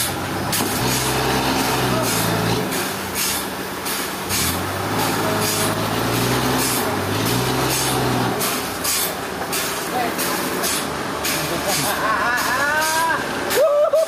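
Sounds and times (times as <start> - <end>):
heavy machine engine running: 0.0 - 13.6.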